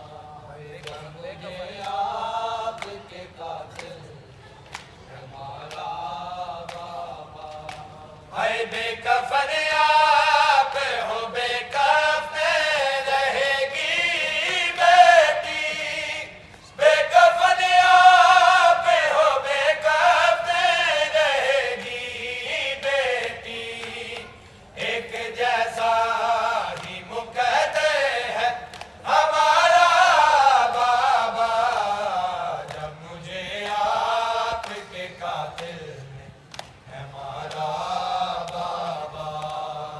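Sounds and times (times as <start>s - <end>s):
men chanting a lament: 0.0s - 4.3s, 5.0s - 39.9s.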